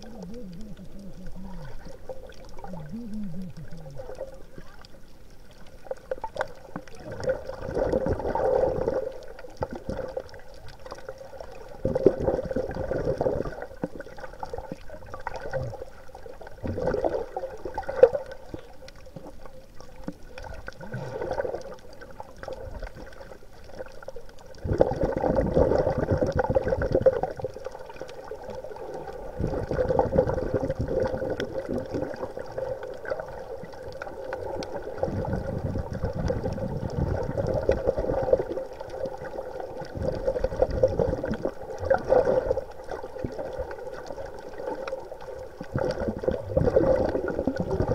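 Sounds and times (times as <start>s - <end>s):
faint steady hum: 0.0s - 47.9s
water gurgling and bubbling: 0.0s - 47.9s.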